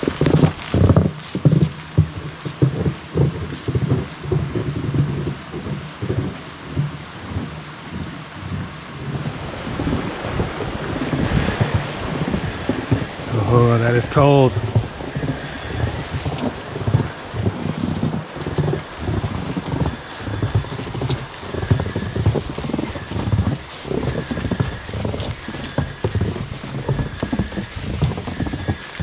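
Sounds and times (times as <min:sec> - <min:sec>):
footsteps in snow: 0:00.0 - 0:29.0.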